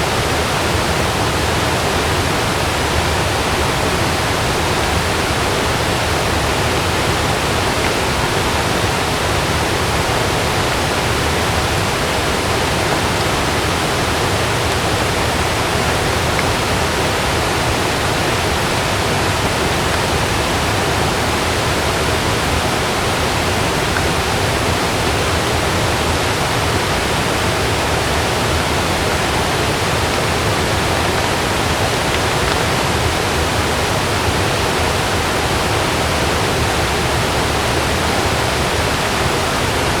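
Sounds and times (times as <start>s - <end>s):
heavy rain on a tent: 0.0s - 40.0s.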